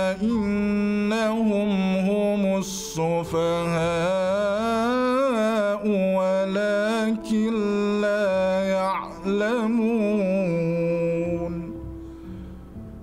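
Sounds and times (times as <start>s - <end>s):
man chanting melodically: 0.0s - 11.8s
soft musical drone: 0.0s - 13.0s.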